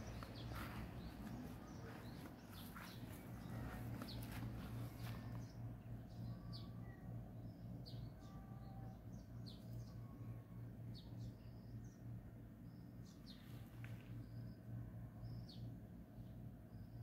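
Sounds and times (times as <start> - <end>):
bird chirping: 0.0 - 17.0
steady low hum: 0.0 - 17.0.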